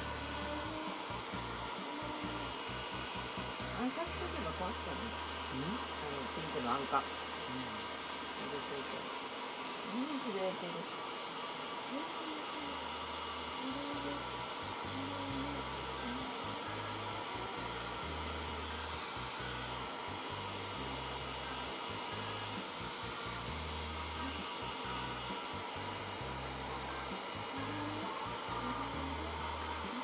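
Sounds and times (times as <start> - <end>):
hair dryer running: 0.0 - 30.0.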